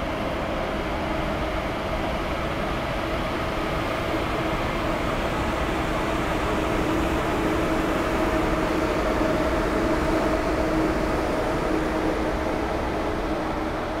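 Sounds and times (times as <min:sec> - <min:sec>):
steady train hum: 0:00.0 - 0:14.0
train wheels rushing on rails: 0:00.0 - 0:14.0.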